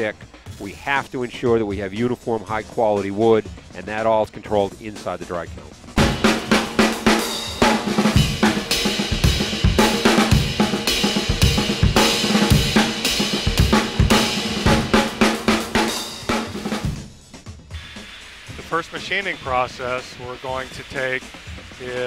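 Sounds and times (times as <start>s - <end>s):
drum kit groove: 0.0s - 22.0s.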